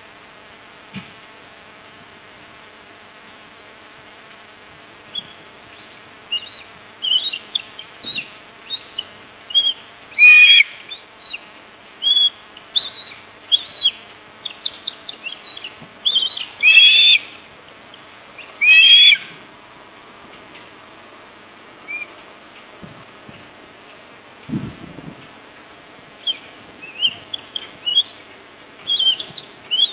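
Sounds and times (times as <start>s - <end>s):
birds chirping: 4.8s - 29.9s.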